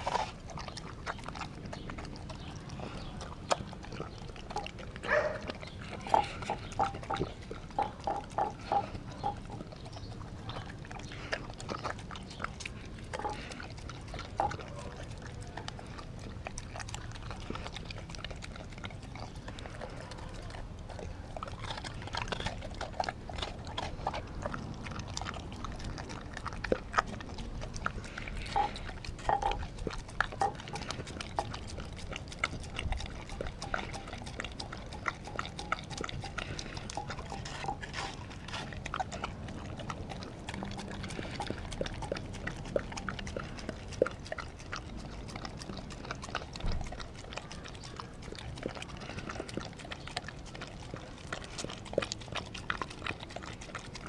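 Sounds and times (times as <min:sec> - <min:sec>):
dog chewing and licking: 0:00.0 - 0:54.0.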